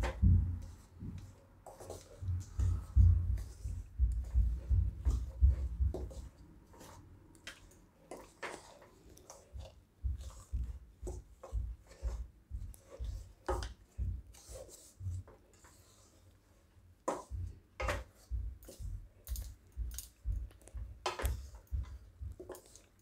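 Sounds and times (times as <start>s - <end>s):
spatula scraping a pan: 0.0s - 18.9s, 22.4s - 23.0s.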